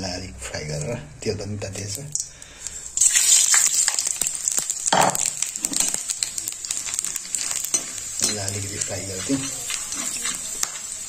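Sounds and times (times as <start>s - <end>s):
spices sizzling in hot oil: 1.8s - 11.0s.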